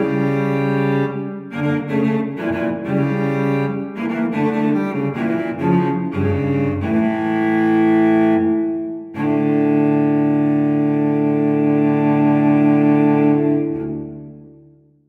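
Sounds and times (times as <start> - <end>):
solo cello melody: 0.0 - 14.8.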